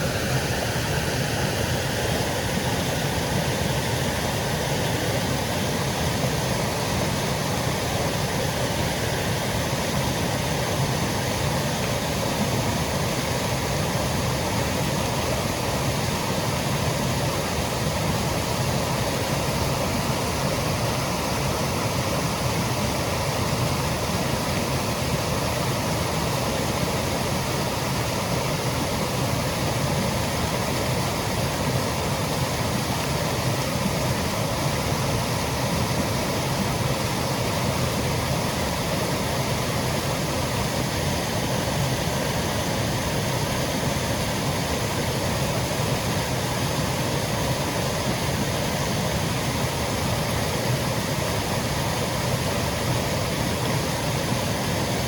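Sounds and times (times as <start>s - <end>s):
water cascading over rocks: 0.0s - 55.0s.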